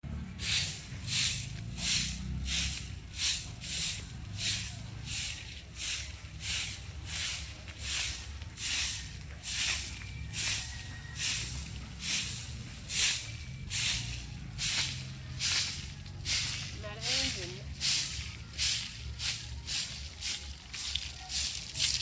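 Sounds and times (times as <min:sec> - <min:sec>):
rhythmic swishing strokes: 0:00.1 - 0:22.0.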